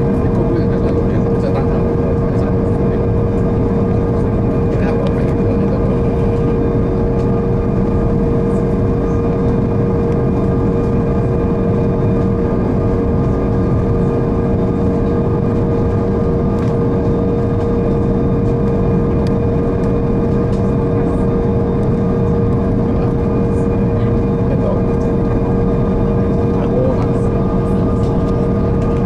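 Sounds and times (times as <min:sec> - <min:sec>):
jet engines and airflow rushing: 0:00.0 - 0:29.0
steady hum: 0:00.0 - 0:29.0.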